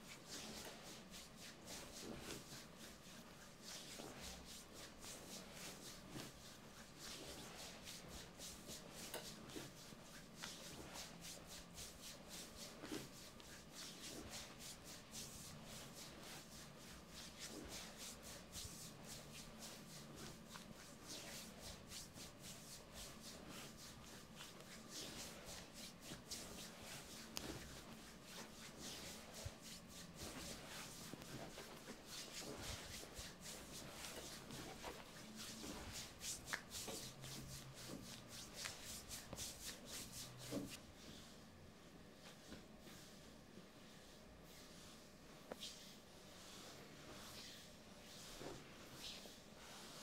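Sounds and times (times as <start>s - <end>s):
skin rubbing on skin: 0.0s - 40.8s, 42.2s - 50.0s.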